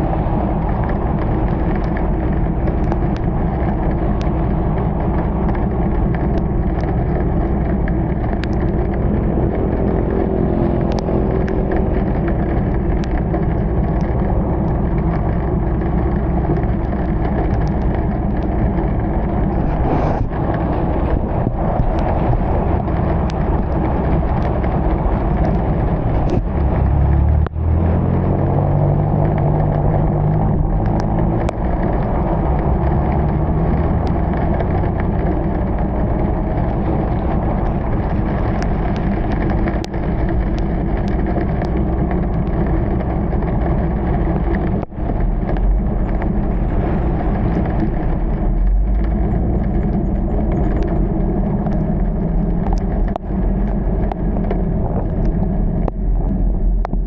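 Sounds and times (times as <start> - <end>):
car engine hum: 0.0 - 57.0
rain: 0.0 - 57.0.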